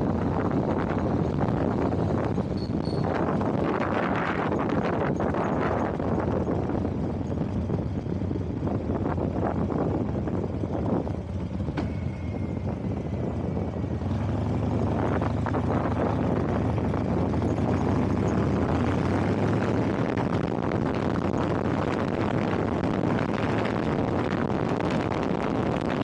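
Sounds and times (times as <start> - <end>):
road and wind noise: 0.0 - 26.0
vehicle engine hum: 0.0 - 26.0.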